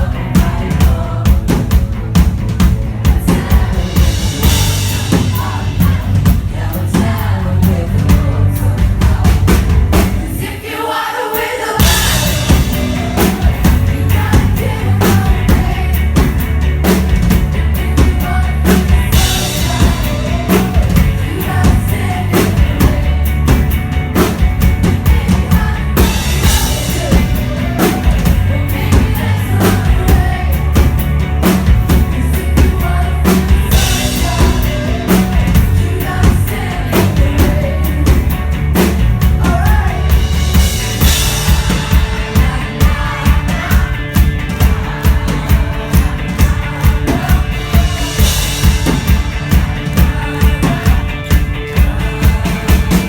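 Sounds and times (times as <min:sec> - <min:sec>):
steady drum beat: 0:00.0 - 0:10.7, 0:11.3 - 0:53.0
live pop music: 0:00.0 - 0:53.0
person singing: 0:02.6 - 0:17.0, 0:17.7 - 0:53.0.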